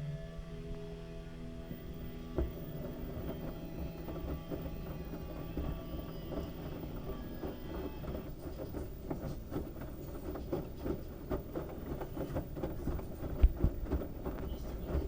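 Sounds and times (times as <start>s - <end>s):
washing machine drum rumbling: 0.0s - 15.0s
towels knocking and rattling: 1.6s - 15.0s.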